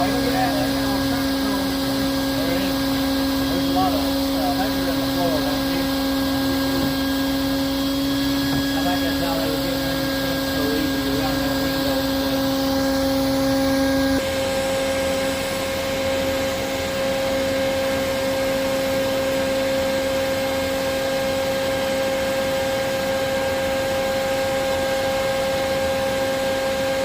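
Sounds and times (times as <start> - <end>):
vacuum motor humming: 0.0 - 27.0.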